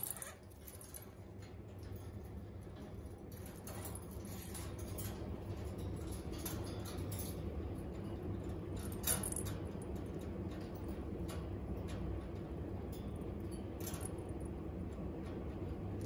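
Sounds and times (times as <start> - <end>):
birds clicking on wire cages: 0.0 - 16.0.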